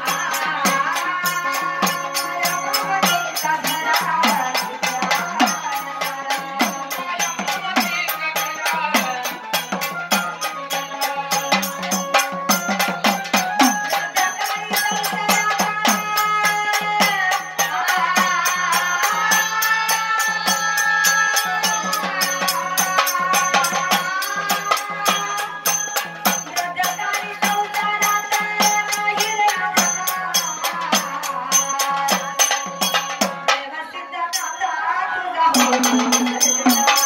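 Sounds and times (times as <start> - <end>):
rhythmic percussion: 0.0 - 37.0
woman singing devotional song: 0.0 - 37.0.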